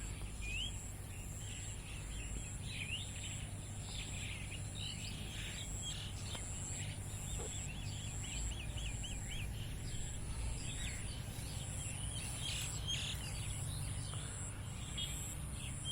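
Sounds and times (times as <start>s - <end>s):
birds chirping: 0.0s - 15.9s
steady high buzz: 0.0s - 15.9s.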